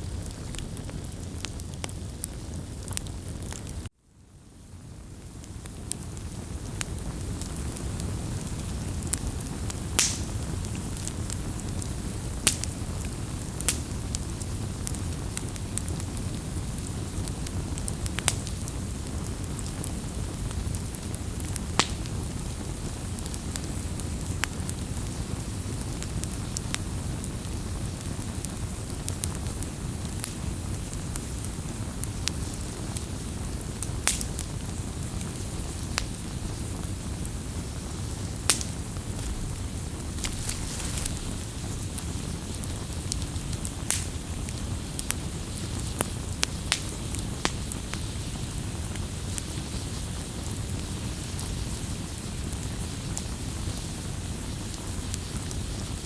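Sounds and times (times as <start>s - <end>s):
campfire flames rushing: 0.0s - 56.0s
fire crackles and pops: 0.0s - 56.0s.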